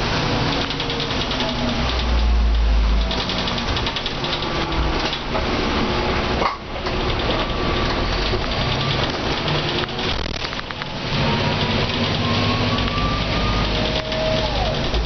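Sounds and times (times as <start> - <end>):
bus engine running: 0.0 - 15.0
rain on windscreen: 0.0 - 15.0
rattles in bus cabin: 0.0 - 15.0.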